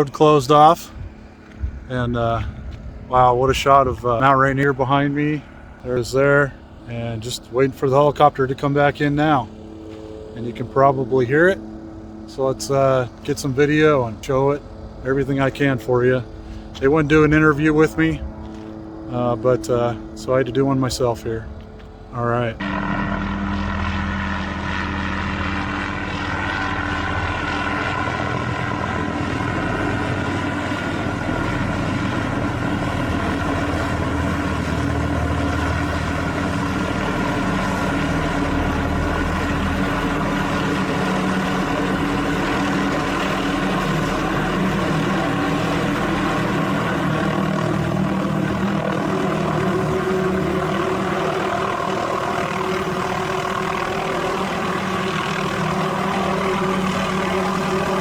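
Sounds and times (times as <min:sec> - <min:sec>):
helicopter running: 0:00.0 - 0:58.0.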